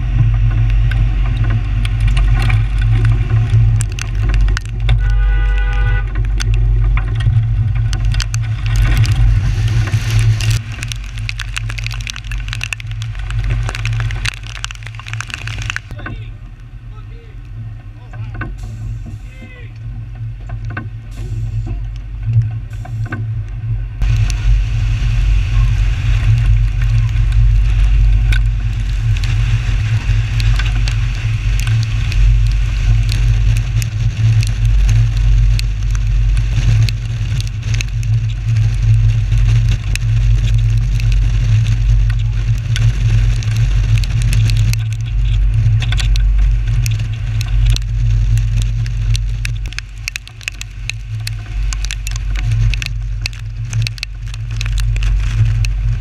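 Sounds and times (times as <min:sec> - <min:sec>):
raindrops ticking on housing: 0:00.0 - 0:56.0
wind buffeting microphone: 0:00.0 - 0:56.0.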